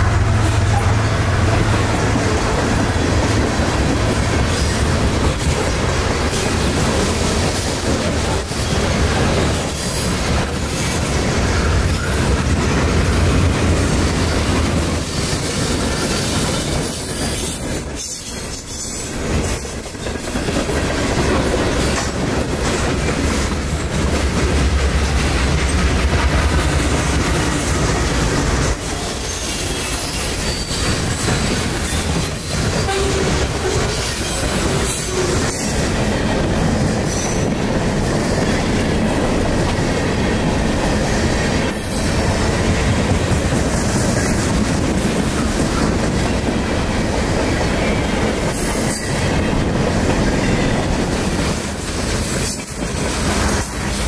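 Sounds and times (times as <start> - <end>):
deep train rumble: 0.0 - 54.0
freight train wheels on rails: 0.0 - 54.0.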